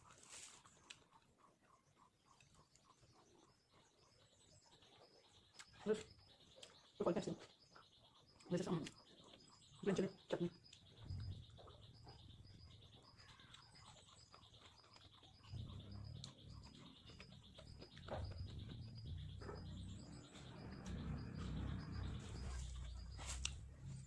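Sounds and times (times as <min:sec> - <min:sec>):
bird chirping: 0:00.0 - 0:24.0.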